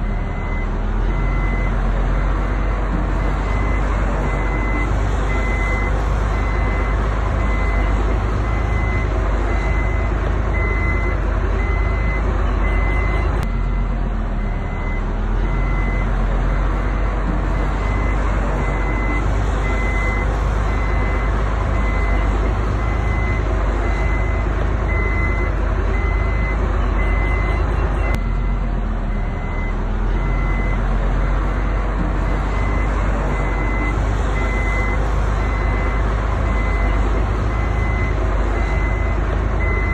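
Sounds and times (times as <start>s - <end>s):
diesel engine rumbling: 0.0s - 39.9s
reversing alarm beeping: 0.1s - 39.9s.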